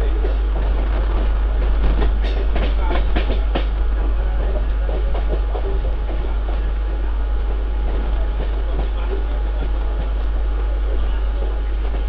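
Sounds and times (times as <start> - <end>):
train wheels rumbling on rail: 0.0 - 12.0
wind buffeting microphone: 0.0 - 12.0.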